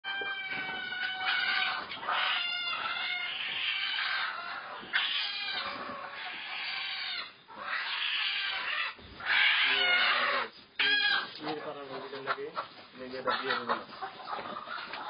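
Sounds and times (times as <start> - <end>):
hens clucking and squawking: 0.0 - 15.0.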